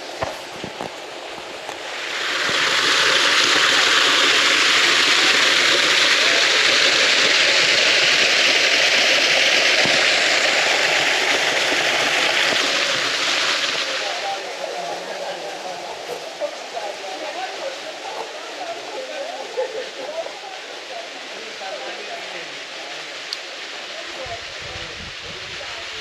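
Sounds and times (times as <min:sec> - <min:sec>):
fountain water rushing into basin: 0:00.0 - 0:26.0.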